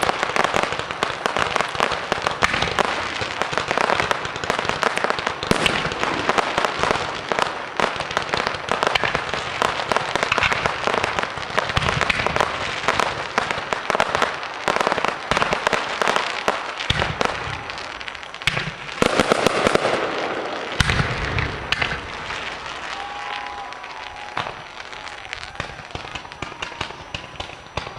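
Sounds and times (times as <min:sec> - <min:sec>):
heavy firework booms: 0:00.0 - 0:14.3, 0:16.8 - 0:27.9
fireworks bangs and crackling: 0:00.0 - 0:27.9.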